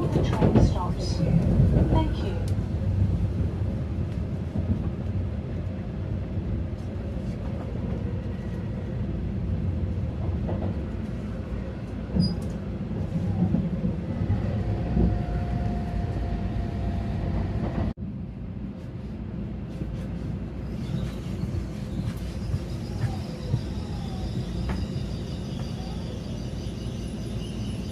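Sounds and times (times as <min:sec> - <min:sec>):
train cabin low rumble: 0:00.0 - 0:27.9.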